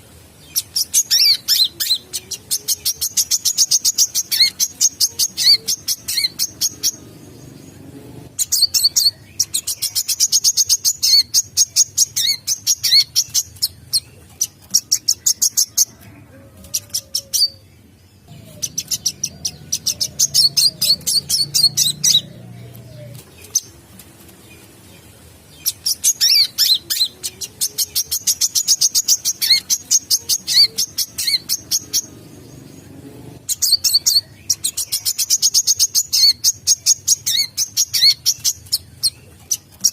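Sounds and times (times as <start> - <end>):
sunbird high-pitched chirps: 0.5 - 16.0, 18.3 - 23.8, 25.5 - 39.9.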